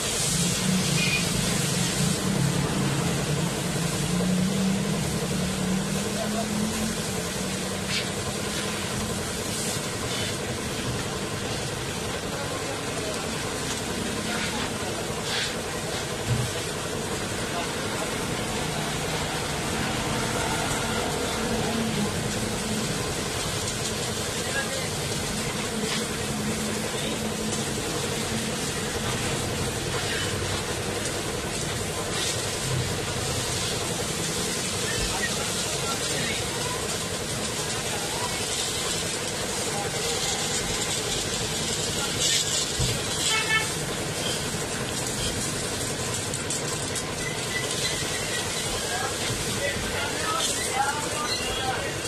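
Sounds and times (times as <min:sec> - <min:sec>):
pressure washer water spray hiss: 0:00.0 - 0:52.0
street traffic: 0:00.0 - 0:52.0.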